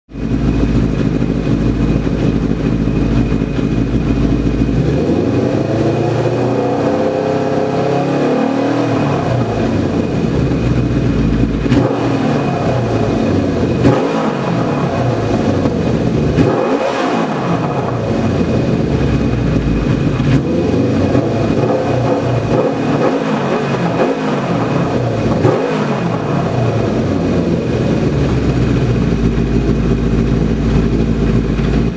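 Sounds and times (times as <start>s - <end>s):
motorcycle engine revving: 0.1s - 31.9s.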